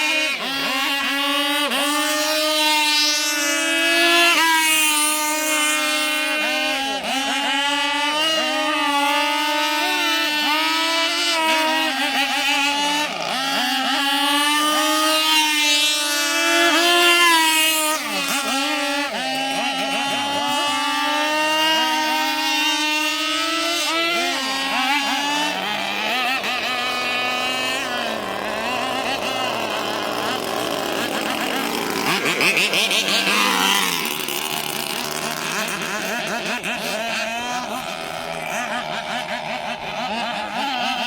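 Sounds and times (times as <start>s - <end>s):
model boat engine revving: 0.0s - 41.0s.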